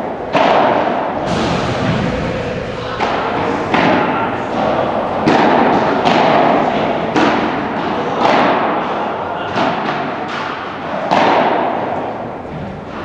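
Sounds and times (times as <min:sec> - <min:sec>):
racket hitting ball: 0:00.0 - 0:13.0.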